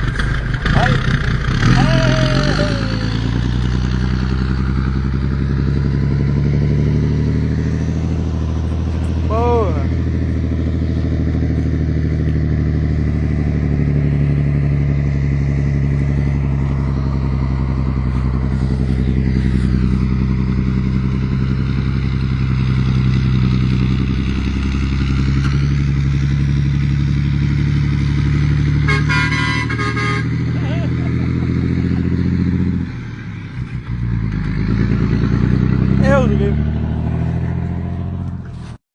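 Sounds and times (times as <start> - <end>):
diesel truck engine droning: 0.0 - 38.8.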